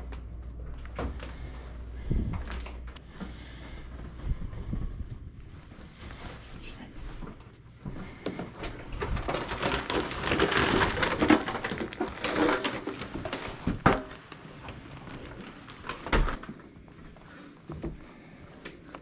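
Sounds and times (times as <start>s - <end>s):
household items rustling and clattering: 0.0s - 19.0s.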